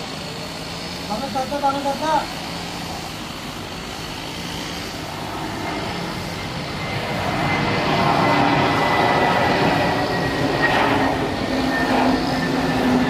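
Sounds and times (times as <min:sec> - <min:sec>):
jet engines whining: 0:00.0 - 0:13.0.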